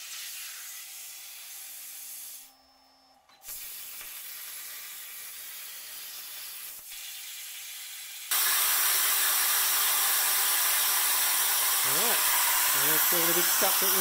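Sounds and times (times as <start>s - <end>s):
loud hiss of air: 0.0s - 2.5s, 3.4s - 7.0s, 8.3s - 14.0s
plasma torch hissing: 0.0s - 2.6s, 3.4s - 14.0s.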